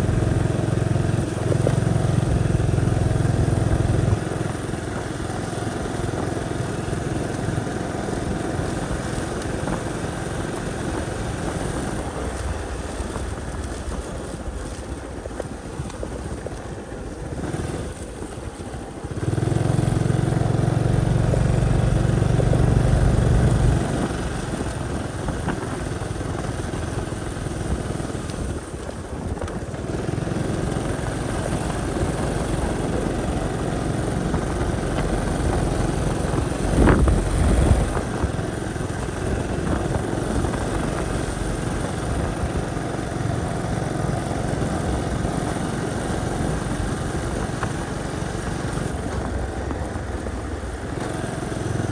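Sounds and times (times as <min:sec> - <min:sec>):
motorcycle engine running: 0:00.0 - 0:51.9
road and wind noise: 0:00.0 - 0:51.9.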